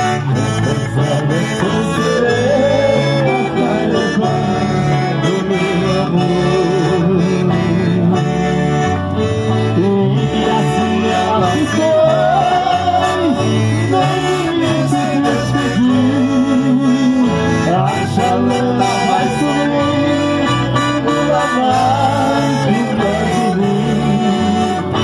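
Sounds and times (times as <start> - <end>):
accordion melody: 0.0 - 25.0
guitar accompanying: 0.0 - 25.0.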